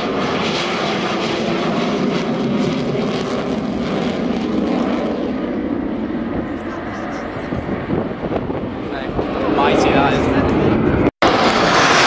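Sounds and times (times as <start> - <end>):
jet bomber flying past: 0.0 - 12.0.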